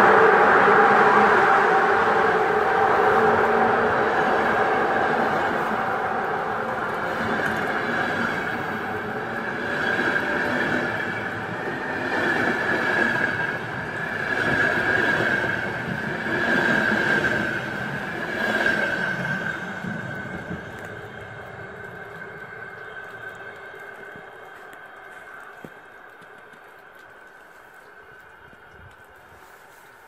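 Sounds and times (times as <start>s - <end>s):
train wheels squealing on rails: 0.0s - 26.2s.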